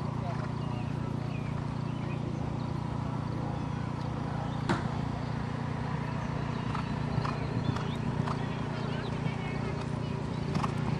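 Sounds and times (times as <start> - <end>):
low outdoor rumble: 0.0 - 10.9.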